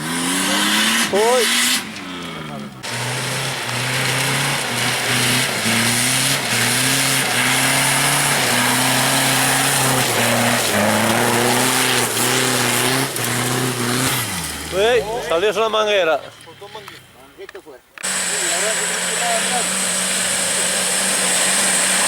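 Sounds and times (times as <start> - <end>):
off-road engine at high revs: 0.0 - 17.2, 18.0 - 22.0.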